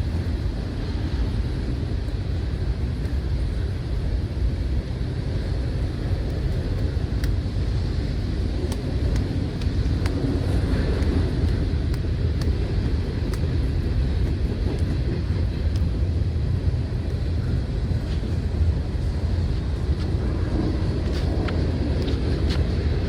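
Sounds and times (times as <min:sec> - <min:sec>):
freight train rumbling: 0:00.0 - 0:23.0.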